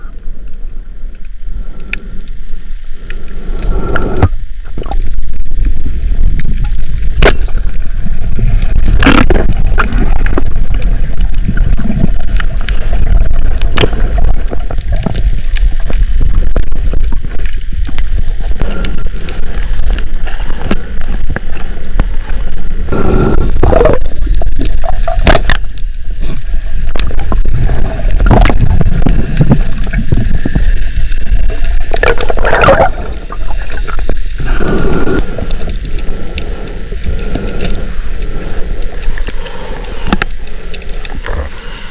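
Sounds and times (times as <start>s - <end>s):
sharp clicks and pops: 0.0s - 41.6s
underwater rumble: 0.0s - 41.9s
water gurgling: 0.0s - 41.9s.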